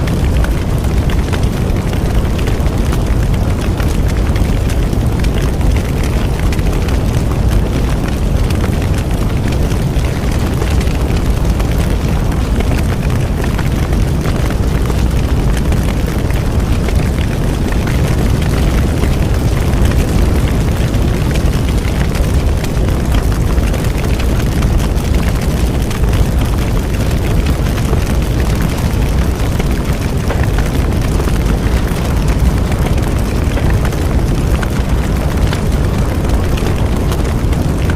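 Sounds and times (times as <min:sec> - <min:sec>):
bonfire roaring: 0:00.0 - 0:37.9
fire crackling and popping: 0:00.0 - 0:37.9.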